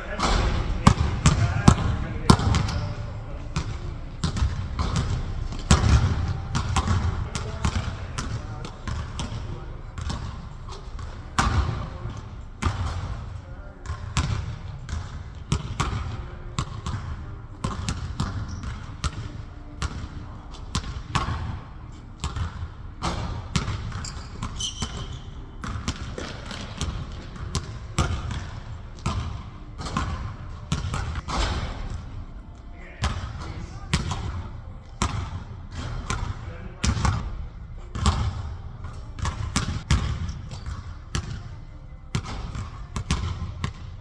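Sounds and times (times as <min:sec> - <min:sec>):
basketball bouncing on court: 0:00.0 - 0:32.1, 0:33.0 - 0:41.5, 0:42.1 - 0:43.9.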